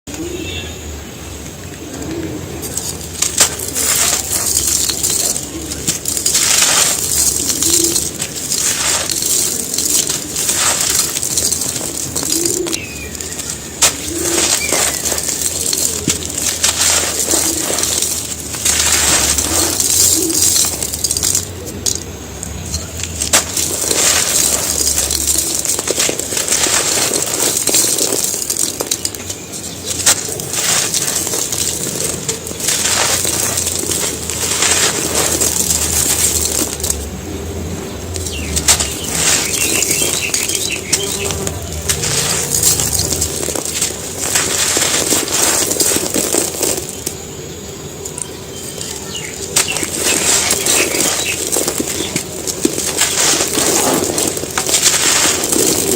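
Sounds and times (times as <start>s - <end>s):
pigeons cooing: 0.1s - 55.9s
cement pieces crunching by hand: 1.6s - 55.9s.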